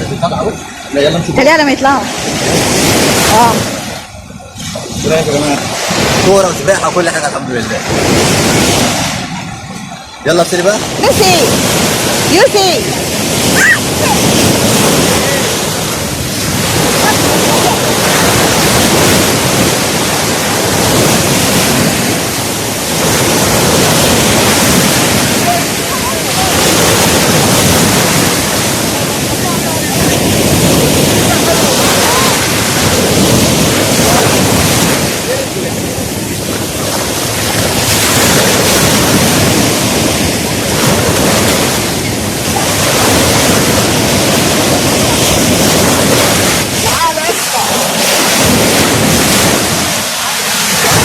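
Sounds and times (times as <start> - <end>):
sea waves breaking: 0.0 - 51.0
wind rushing over microphone: 0.0 - 51.0.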